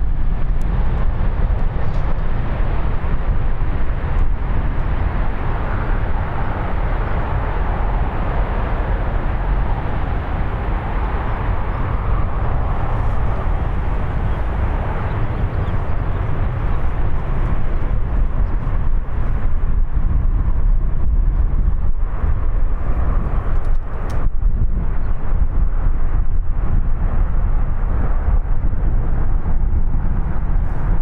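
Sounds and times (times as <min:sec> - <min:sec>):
jet engines roaring: 0:00.0 - 0:31.0
wind rumbling on microphone: 0:00.0 - 0:31.0.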